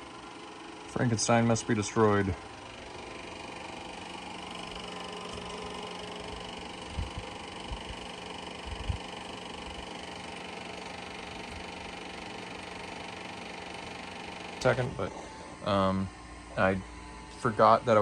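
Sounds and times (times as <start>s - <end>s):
film projector whirring: 0.0s - 18.0s.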